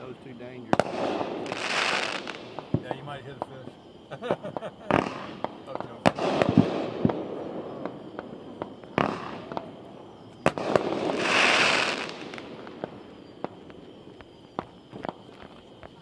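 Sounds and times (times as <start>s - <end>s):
firework bangs: 0.0s - 16.0s
fireworks crackling: 0.0s - 16.0s
small firework pops: 0.7s - 3.8s, 4.5s - 16.0s.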